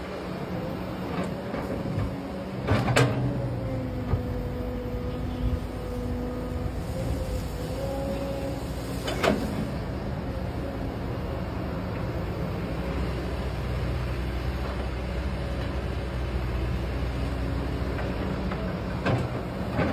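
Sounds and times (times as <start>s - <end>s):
excavator running under load: 0.0s - 19.9s.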